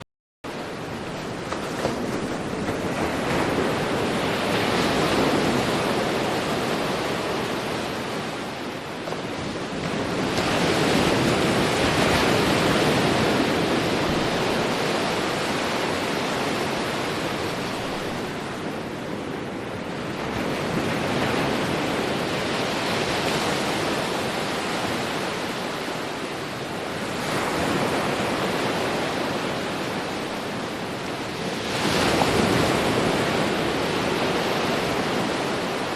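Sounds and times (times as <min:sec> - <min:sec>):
waves breaking on beach: 0:00.5 - 0:35.9.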